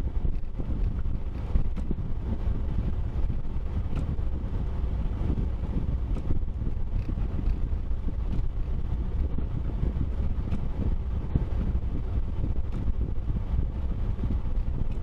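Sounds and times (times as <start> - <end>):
vehicle driving rumble: 0.0 - 15.0
wind noise: 0.0 - 15.0.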